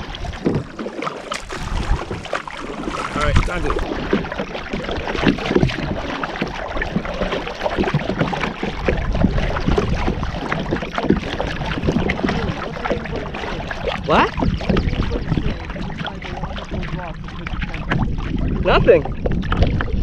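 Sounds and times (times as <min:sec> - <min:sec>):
water splashing around kayak: 0:00.0 - 0:20.0
wind rumbling on microphone: 0:00.0 - 0:20.0.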